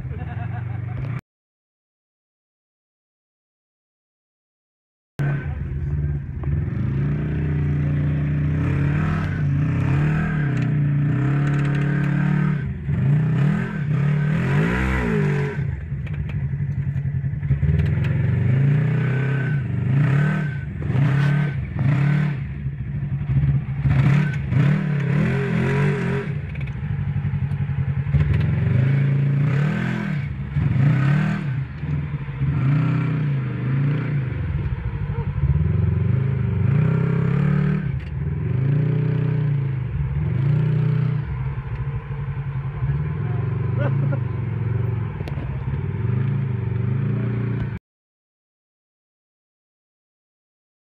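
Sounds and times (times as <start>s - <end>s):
utility vehicle engine revving: 5.2s - 47.8s.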